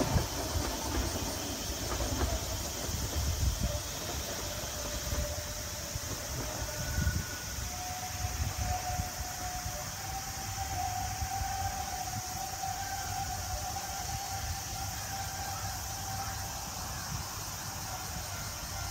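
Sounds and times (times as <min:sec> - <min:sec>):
electric train motor whine: 0:00.0 - 0:18.9
steady high hiss: 0:00.0 - 0:18.9.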